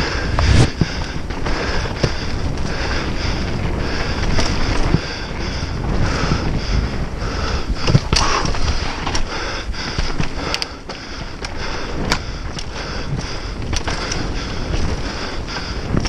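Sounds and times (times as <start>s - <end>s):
tyres rumbling on dirt: 0.0s - 16.0s
wind buffeting microphone: 0.0s - 16.0s
bike clicking and knocking: 0.8s - 16.0s.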